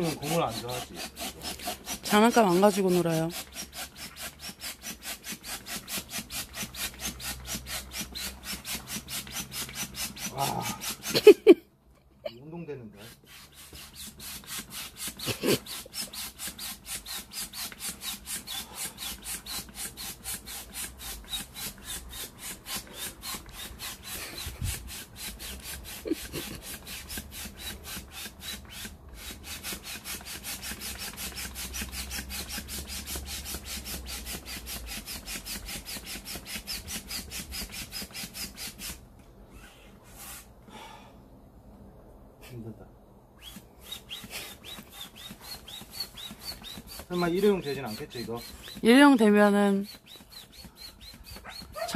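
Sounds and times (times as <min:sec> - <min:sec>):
hand air pump strokes: 0:00.0 - 0:11.6, 0:12.9 - 0:40.5, 0:43.4 - 0:51.9.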